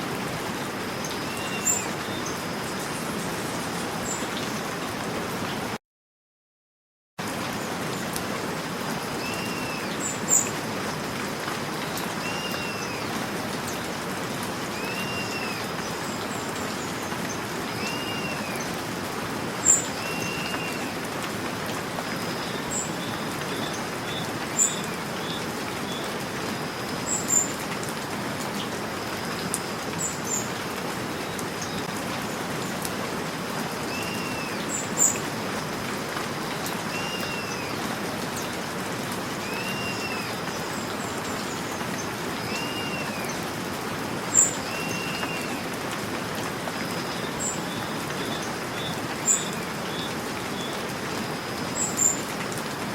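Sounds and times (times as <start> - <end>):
steady rain: 0.0 - 5.8, 7.2 - 52.9.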